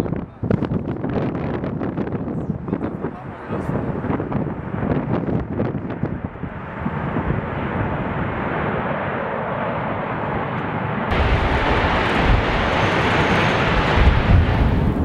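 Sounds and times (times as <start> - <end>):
deep jet engine rumble: 0.0 - 15.0.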